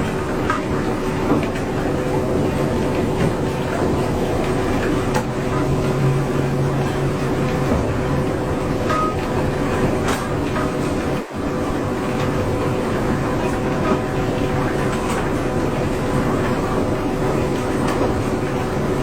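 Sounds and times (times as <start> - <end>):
machine humming and rattling: 0.0 - 19.0.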